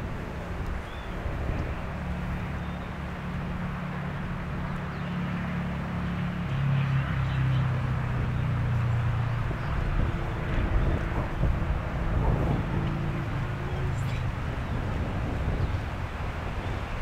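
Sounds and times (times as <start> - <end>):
motor passing by: 0.0 - 17.0.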